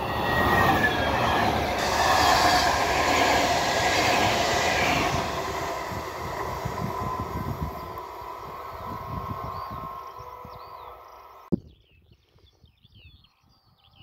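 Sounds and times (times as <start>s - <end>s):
train passing at speed: 0.0s - 11.5s.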